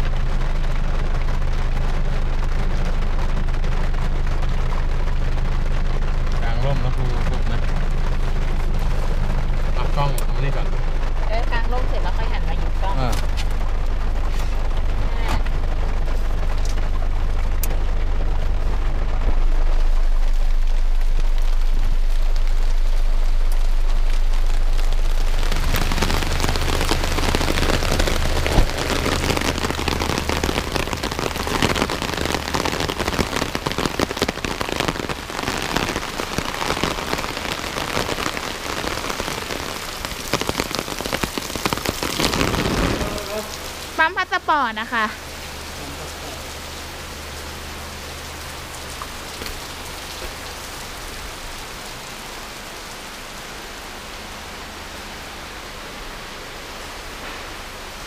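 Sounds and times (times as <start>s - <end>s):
heavy rain: 0.0s - 58.0s
low steady hum: 0.0s - 58.0s.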